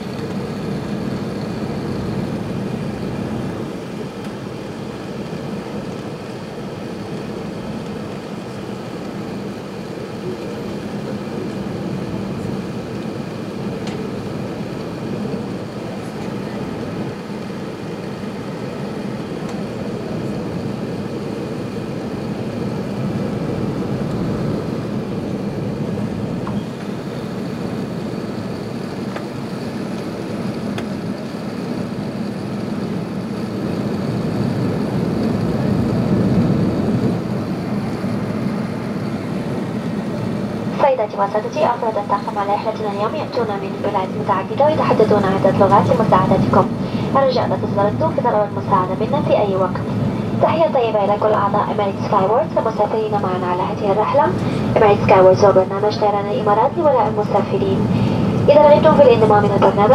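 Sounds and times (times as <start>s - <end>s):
airplane cabin engine and airflow rush: 0.0s - 59.9s.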